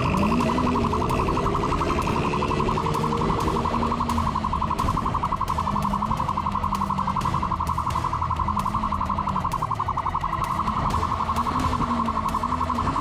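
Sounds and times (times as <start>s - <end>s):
motorcycle engine: 0.0s - 13.0s
police siren rapid pulsing: 0.0s - 13.0s.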